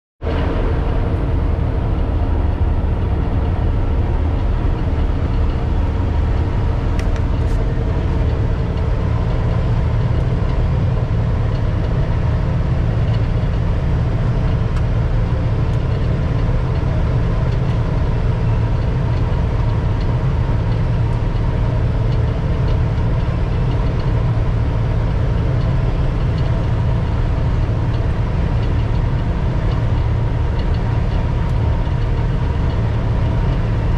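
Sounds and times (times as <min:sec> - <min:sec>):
combine harvester drone: 0:00.2 - 0:33.9
steady machine whine: 0:00.2 - 0:33.9.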